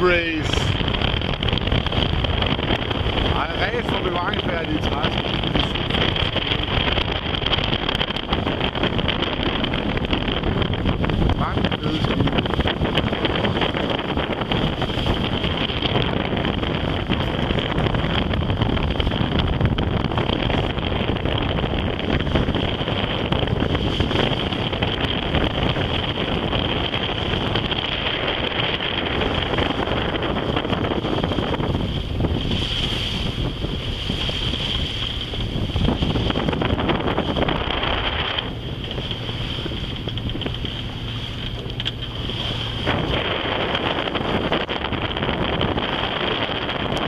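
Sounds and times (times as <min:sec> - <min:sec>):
boat engine running: 0:00.0 - 0:47.0
water washing along hull: 0:00.0 - 0:47.0
wind buffeting microphone: 0:00.0 - 0:47.0.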